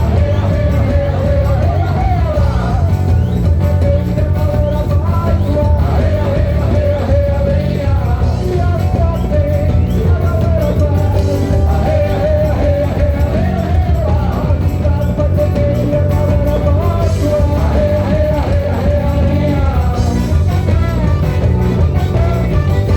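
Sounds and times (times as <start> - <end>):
live band playing amplified music: 0.0 - 22.9
person singing: 0.0 - 22.9.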